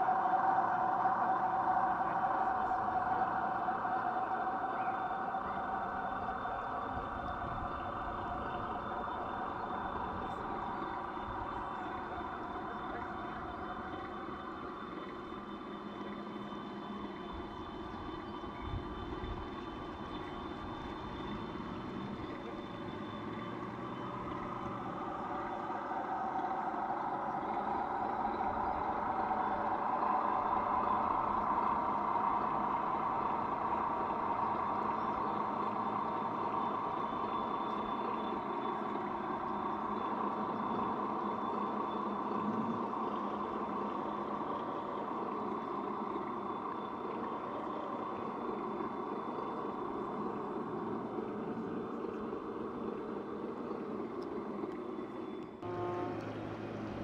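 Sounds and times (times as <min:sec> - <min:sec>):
motor running steadily: 0:00.0 - 0:57.0.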